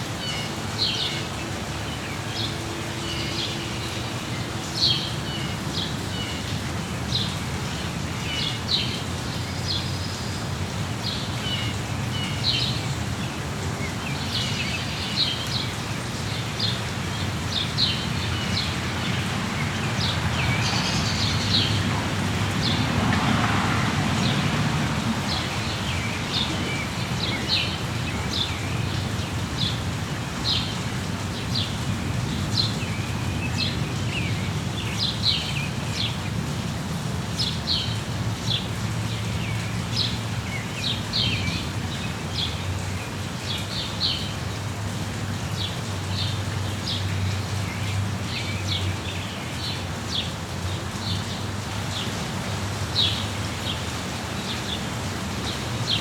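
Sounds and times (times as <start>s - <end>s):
rain hiss: 0.0s - 56.0s
songbirds chirping: 0.0s - 56.0s.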